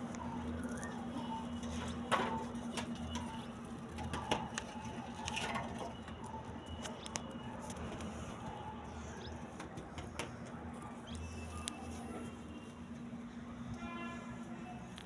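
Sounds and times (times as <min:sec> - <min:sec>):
rabbits chewing cabbage: 0:00.0 - 0:12.7.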